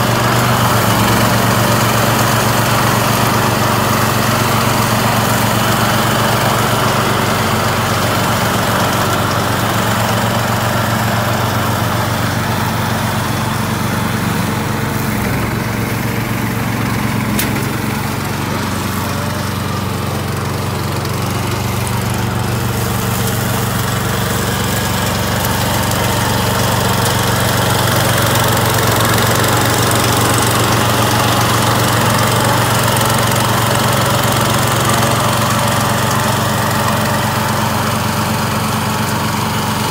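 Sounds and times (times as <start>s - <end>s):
mower cutting grass: 0.0s - 39.9s
mower engine under load: 0.0s - 39.9s.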